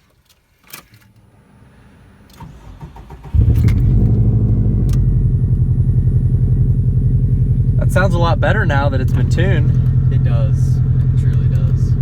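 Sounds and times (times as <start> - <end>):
car engine cranking and idling: 0.2 - 12.0.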